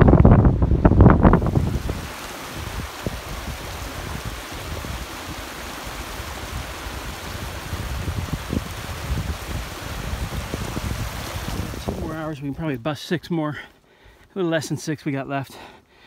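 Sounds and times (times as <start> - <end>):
stream running over boulders: 0.2 - 13.5.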